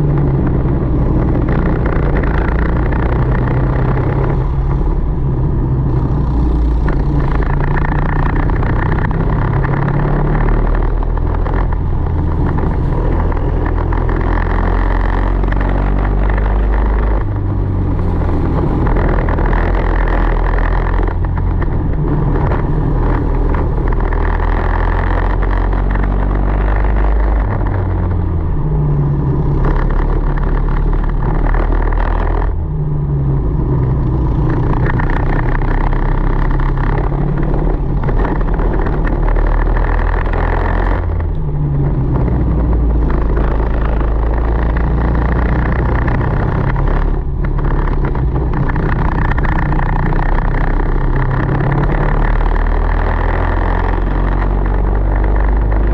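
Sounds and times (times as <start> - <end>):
kart engine revving: 0.0 - 32.6, 33.3 - 55.9.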